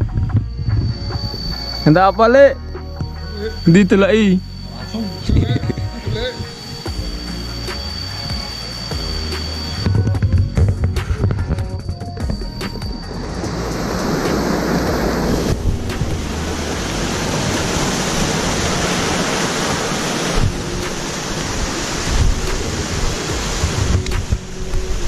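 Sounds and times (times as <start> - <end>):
wind rumble on microphone: 0.0 - 2.6, 5.1 - 25.0.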